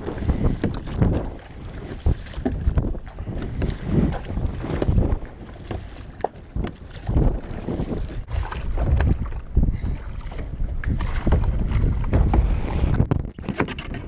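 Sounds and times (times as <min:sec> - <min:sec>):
paddle strokes splashing: 0:00.0 - 0:13.9
water splashing around kayak: 0:00.0 - 0:14.0
wind buffeting microphone: 0:00.0 - 0:14.0.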